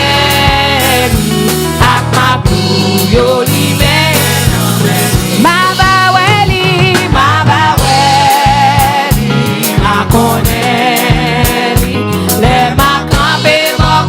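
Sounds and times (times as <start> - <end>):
steady bass: 0.0 - 14.0
worship band playing gospel song: 0.0 - 14.0
drum hits: 0.4 - 14.0.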